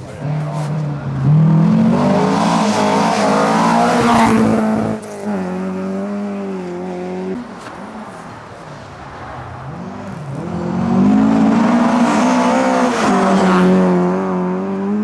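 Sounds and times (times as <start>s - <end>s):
rally car engine at high revs: 0.0s - 8.2s, 9.7s - 15.0s.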